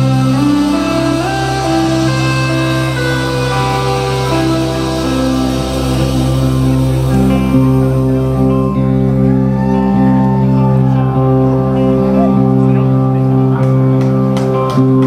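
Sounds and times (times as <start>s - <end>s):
country-rock band playing: 0.0s - 15.0s.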